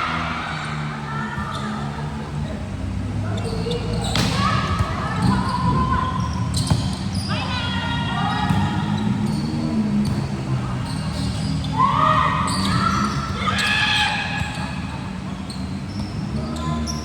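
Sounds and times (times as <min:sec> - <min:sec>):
players shouting: 0:00.0 - 0:02.6, 0:03.3 - 0:09.7, 0:10.3 - 0:17.0
ball bouncing on indoor court: 0:03.4 - 0:17.0.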